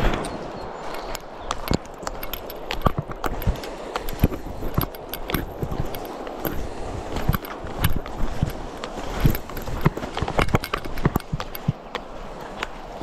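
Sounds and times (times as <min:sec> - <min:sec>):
footsteps on dirt trail: 0:00.0 - 0:13.0
twigs and leaves crackling: 0:00.0 - 0:13.0.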